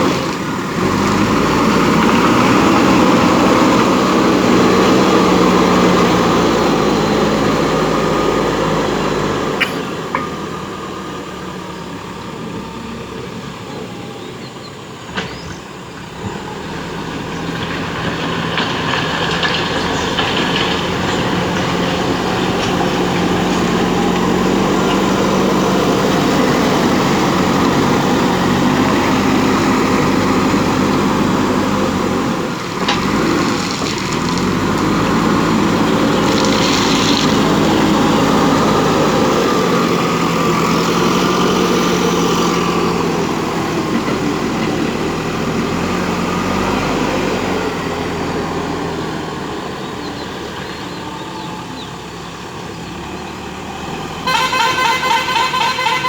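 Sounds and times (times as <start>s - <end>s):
diesel engine working: 0.0s - 56.0s.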